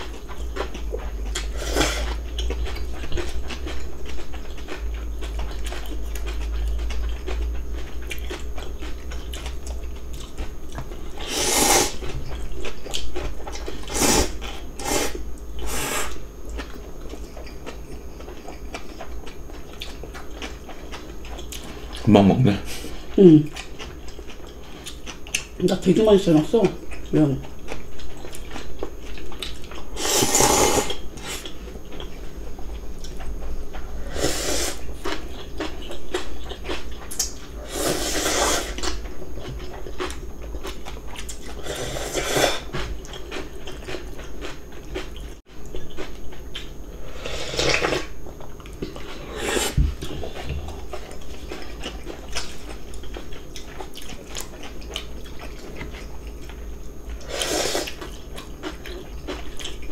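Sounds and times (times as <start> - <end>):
chewing: 0.0 - 59.9.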